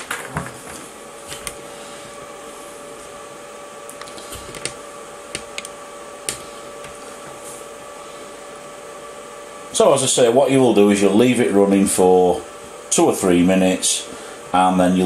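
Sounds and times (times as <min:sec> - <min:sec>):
two-tone steady hum: 0:00.0 - 0:15.0.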